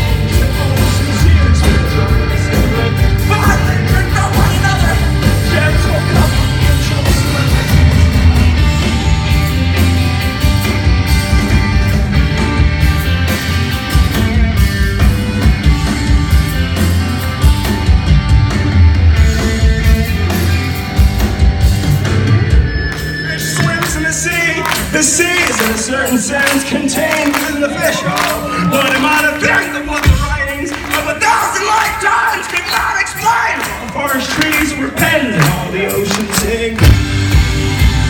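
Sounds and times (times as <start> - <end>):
rock band playing: 0.0 - 38.0.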